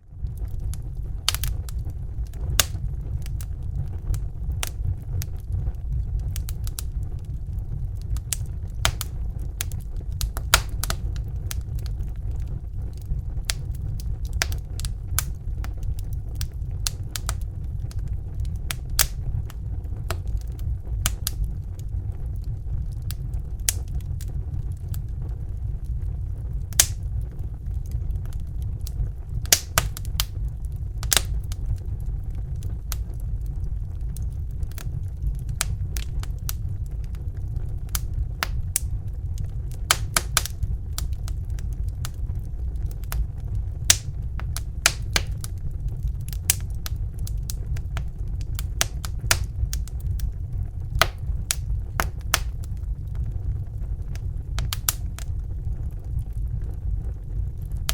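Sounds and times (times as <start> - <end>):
low rumble: 0.0 - 57.9
wood fire crackling: 0.0 - 57.9.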